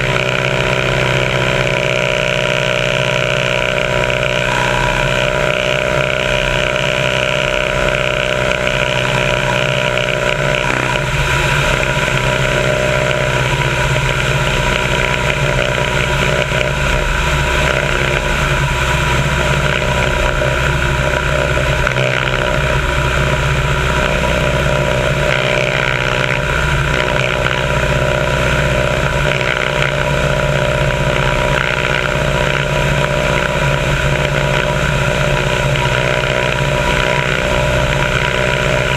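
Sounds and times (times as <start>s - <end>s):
biplane engine running: 0.0s - 38.9s.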